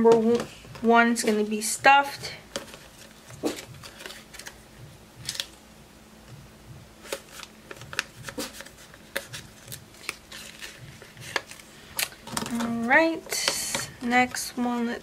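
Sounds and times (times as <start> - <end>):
paper money and envelopes rustling: 0.0 - 4.6, 7.0 - 15.0.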